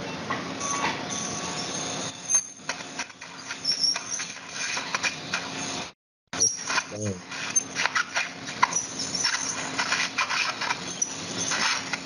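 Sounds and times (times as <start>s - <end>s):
short high squeals and clicks: 0.6s - 5.8s, 6.4s - 12.0s.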